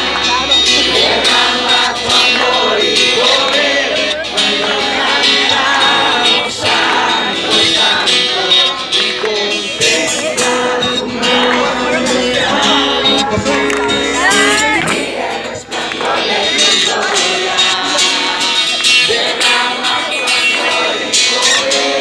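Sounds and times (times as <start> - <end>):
people singing: 0.0 - 22.0
plucked guitar: 0.0 - 22.0.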